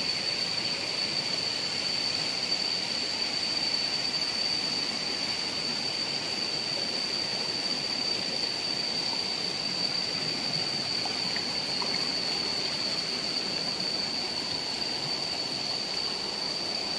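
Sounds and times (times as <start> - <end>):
high-pitched whine: 0.0 - 16.9.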